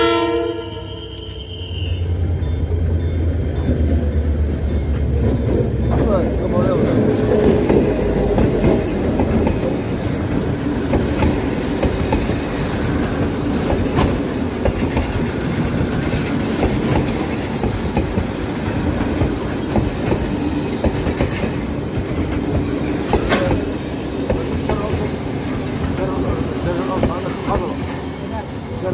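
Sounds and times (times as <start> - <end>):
locomotive engine rumbling: 0.0 - 28.9.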